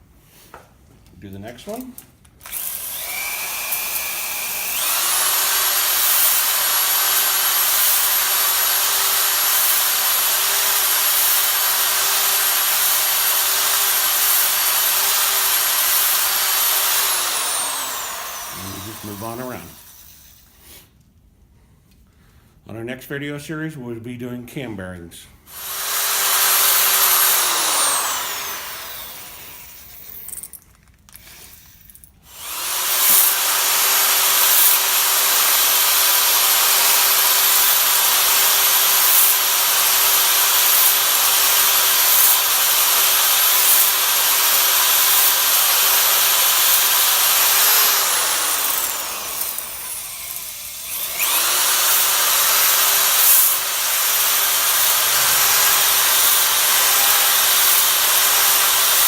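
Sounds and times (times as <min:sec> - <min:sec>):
electric drill honing a cylinder: 0:02.4 - 0:20.4, 0:25.5 - 0:30.4, 0:32.3 - 0:59.0.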